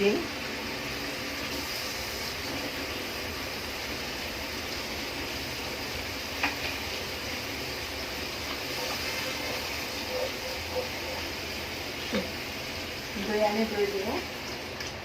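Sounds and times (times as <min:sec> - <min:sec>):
masala sizzling in a pot: 0:00.0 - 0:15.0.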